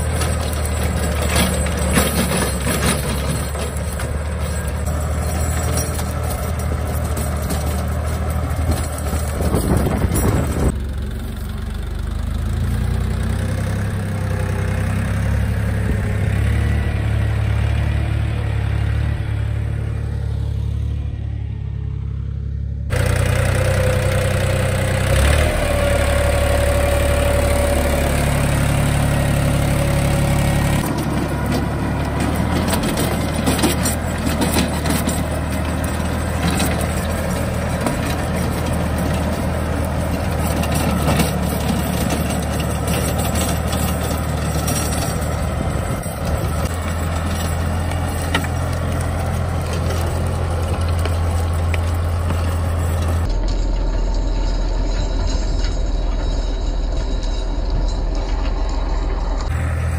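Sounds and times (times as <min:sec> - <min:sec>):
rotary tiller working soil: 0:00.0 - 0:21.0, 0:22.9 - 0:59.9
tractor diesel engine running: 0:00.0 - 0:59.9.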